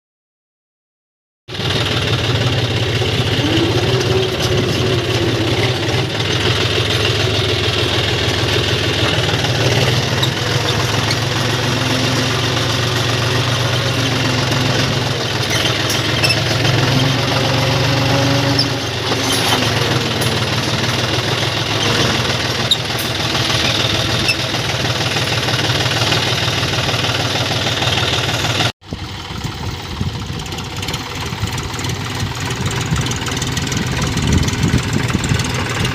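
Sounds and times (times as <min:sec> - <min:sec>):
tractor diesel engine running: 0:01.5 - 0:35.9.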